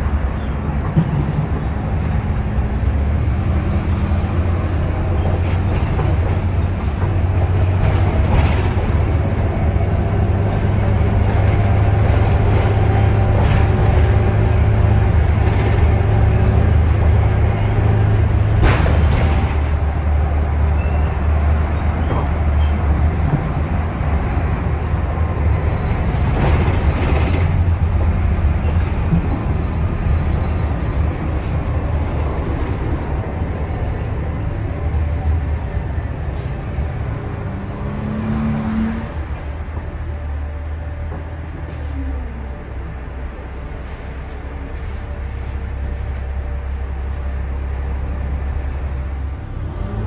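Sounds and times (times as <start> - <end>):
bus engine low rumble: 0.0 - 50.0
road noise: 0.0 - 50.0.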